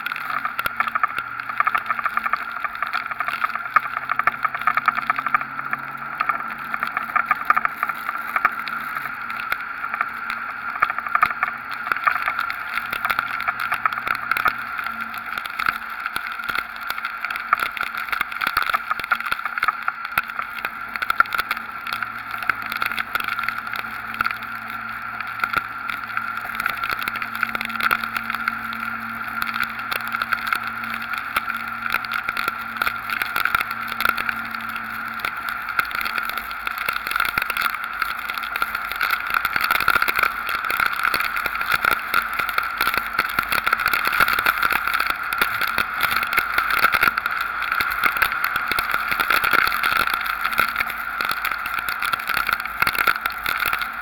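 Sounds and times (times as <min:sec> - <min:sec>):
rain drops crackling on camera: 0:00.0 - 0:54.0.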